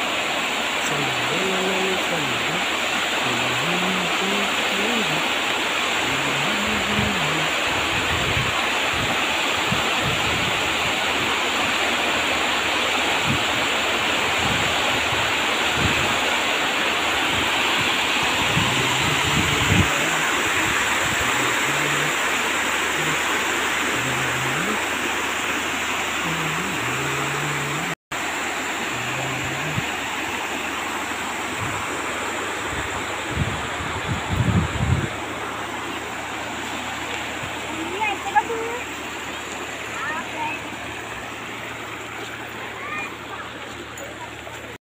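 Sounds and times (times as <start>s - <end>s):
water rushing down cascade: 0.0s - 44.8s.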